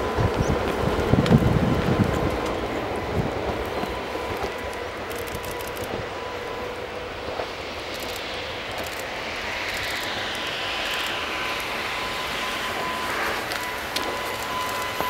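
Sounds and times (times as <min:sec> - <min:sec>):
faint steady whine: 0:00.0 - 0:15.0
train wheels and motors rumbling: 0:00.0 - 0:15.0.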